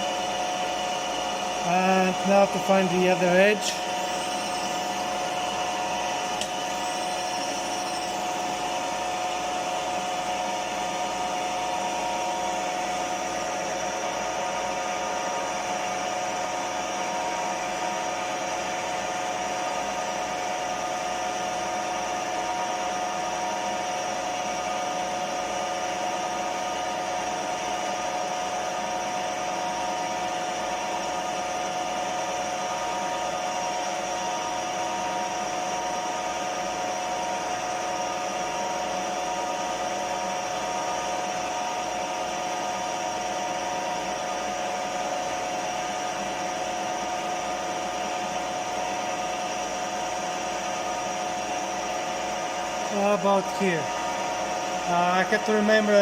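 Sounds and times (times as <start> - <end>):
milling machine whine: 0.0 - 56.0.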